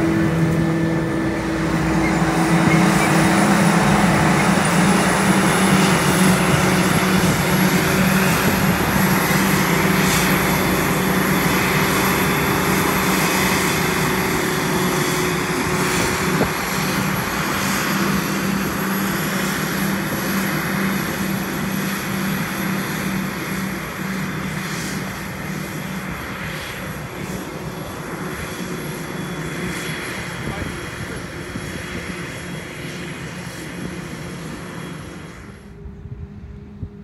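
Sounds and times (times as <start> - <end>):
tractor engine: 0.0 - 35.9
forage harvester engine and chopper: 0.0 - 37.0.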